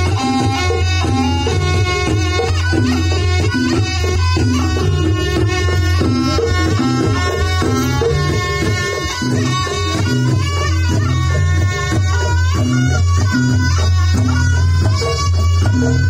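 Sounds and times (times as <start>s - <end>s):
nasal reed pipe melody: 0.0s - 16.0s.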